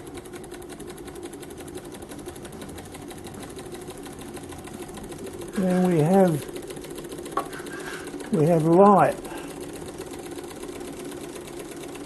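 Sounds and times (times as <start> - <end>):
small engine ticking: 0.0 - 12.0.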